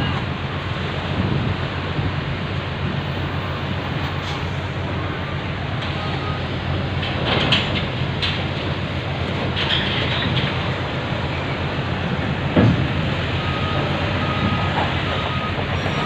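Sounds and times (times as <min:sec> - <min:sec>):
ferry engines humming: 0:00.0 - 0:16.0
wind and water rushing: 0:00.0 - 0:16.0.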